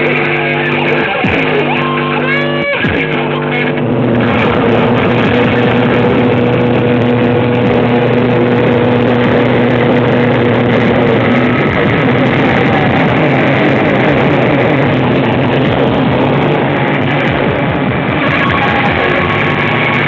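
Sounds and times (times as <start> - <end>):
band playing heavy music live: 0.0 - 20.0.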